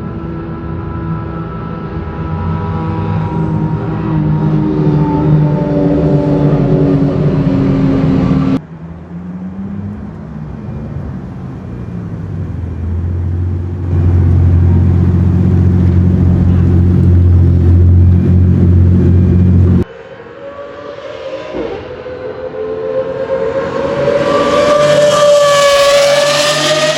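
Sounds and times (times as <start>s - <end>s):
sports car engine: 0.0s - 26.9s.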